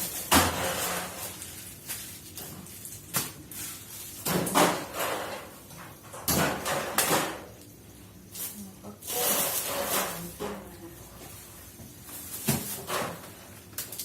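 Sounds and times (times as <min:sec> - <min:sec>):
groceries rustling and knocking: 0:00.0 - 0:07.6, 0:08.2 - 0:14.0.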